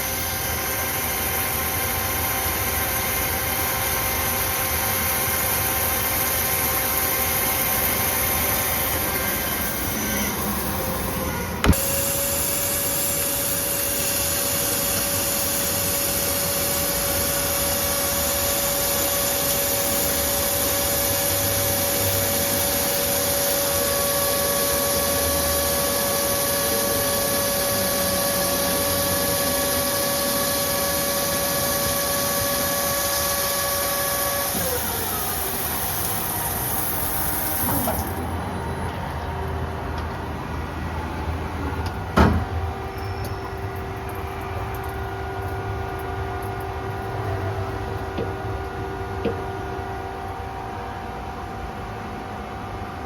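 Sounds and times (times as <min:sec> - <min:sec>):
machine whine: 0:00.0 - 0:52.9
loud steady machinery noise: 0:00.0 - 0:53.0.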